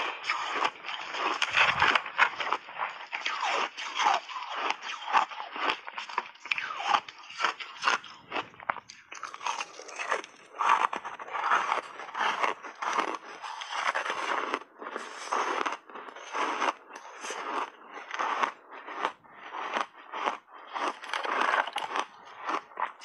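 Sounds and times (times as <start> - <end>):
ice being chewed with crunching: 0.0 - 23.0.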